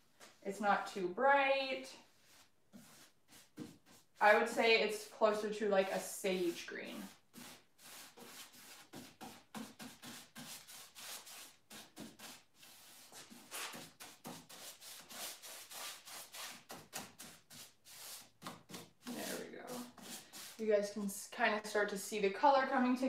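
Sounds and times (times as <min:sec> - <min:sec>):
paintbrush swishing over wood: 0:02.0 - 0:20.7.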